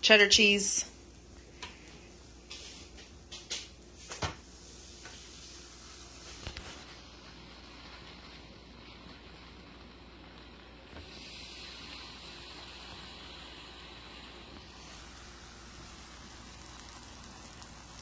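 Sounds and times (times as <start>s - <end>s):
faint griddle hiss: 0.0s - 18.0s.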